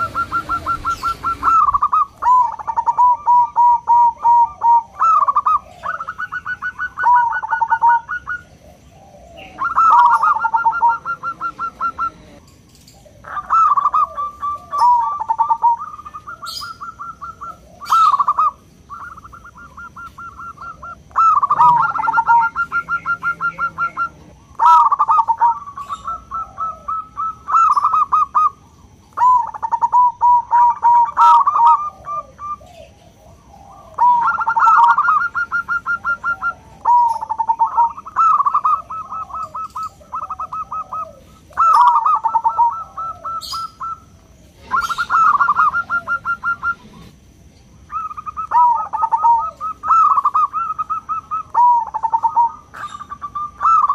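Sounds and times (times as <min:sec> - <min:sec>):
dove rolling coos: 0:00.0 - 0:53.9.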